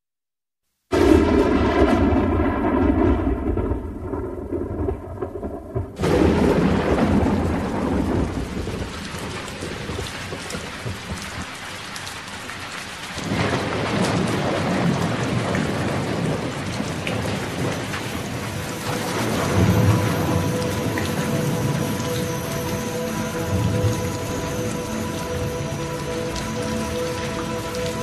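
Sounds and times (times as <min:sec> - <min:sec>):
rolling thunder: 0:00.9 - 0:11.5, 0:13.2 - 0:28.0
steady rain: 0:00.9 - 0:28.0.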